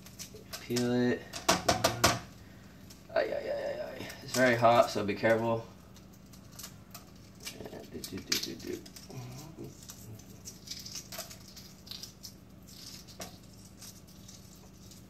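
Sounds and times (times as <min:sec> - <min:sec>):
eggshell crackling: 0:00.0 - 0:15.0.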